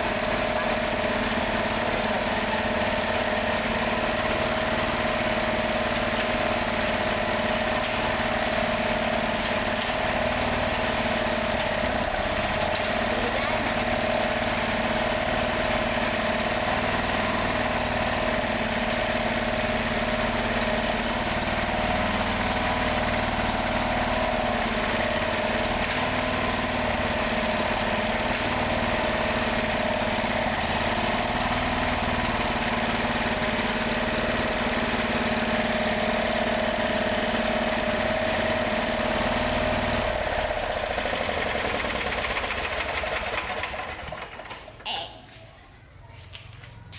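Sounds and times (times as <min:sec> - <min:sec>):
gasoline engine running: 0:00.0 - 0:44.8.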